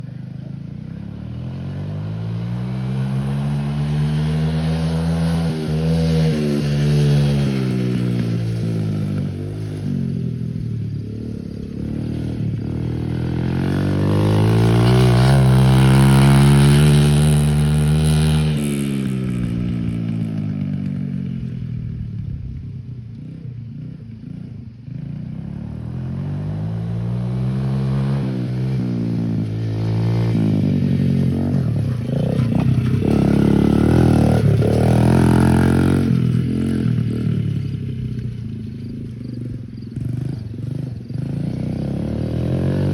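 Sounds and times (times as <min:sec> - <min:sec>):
small motorbike engine revving: 0:00.9 - 0:21.2, 0:25.1 - 0:42.9.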